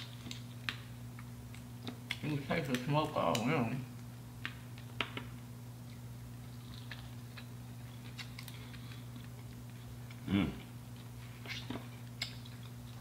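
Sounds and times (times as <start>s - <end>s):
crisp chewing clicks and smacks: 0.0s - 10.2s, 10.9s - 13.0s
low electrical hum: 0.0s - 13.0s.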